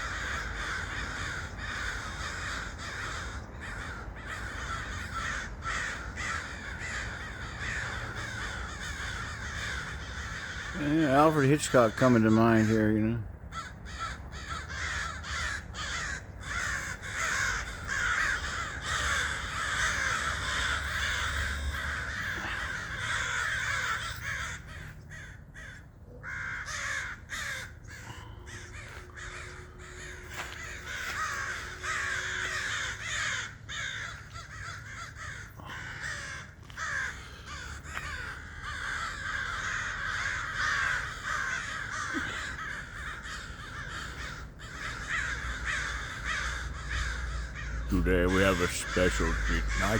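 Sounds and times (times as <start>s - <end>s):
crows cawing: 0.0s - 49.9s
flock of birds calling: 0.0s - 49.9s.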